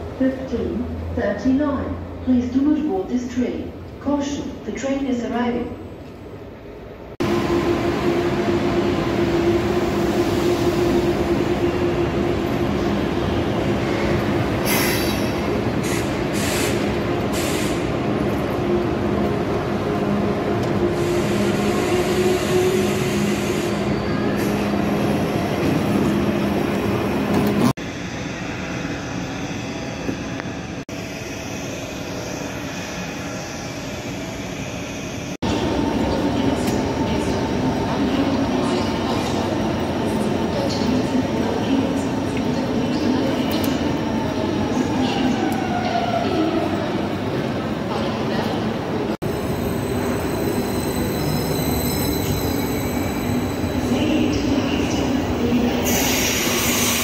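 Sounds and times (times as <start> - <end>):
train humming with held tones: 0.0 - 57.0.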